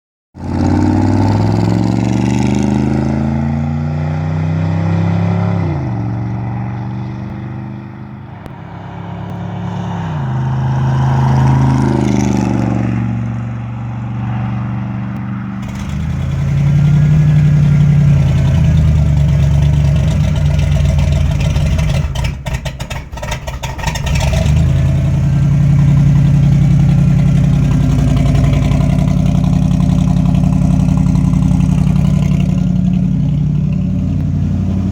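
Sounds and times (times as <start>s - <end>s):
vee eight engine revving and rumbling: 0.4s - 34.9s.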